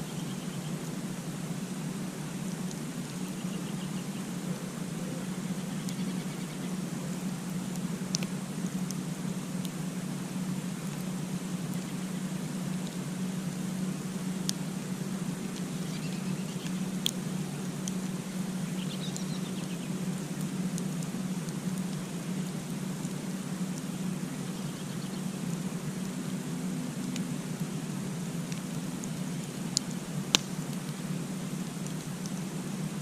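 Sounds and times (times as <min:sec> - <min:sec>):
campfire rumbling: 0:00.0 - 0:33.0
fire crackling pops: 0:00.8 - 0:24.6, 0:25.2 - 0:33.0.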